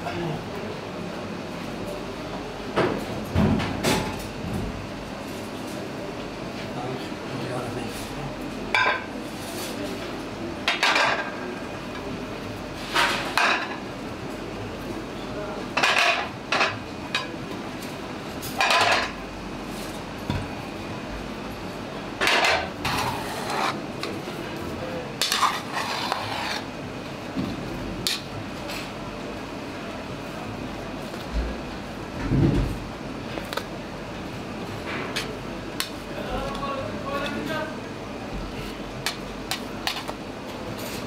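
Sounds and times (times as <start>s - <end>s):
steady background noise: 0.0s - 41.0s.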